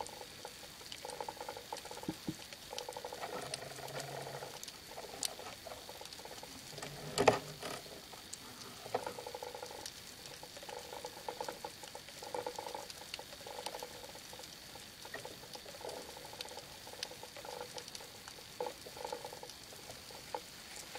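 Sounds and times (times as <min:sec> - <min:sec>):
underwater crackle of ticks and clicks: 0:00.0 - 0:20.9.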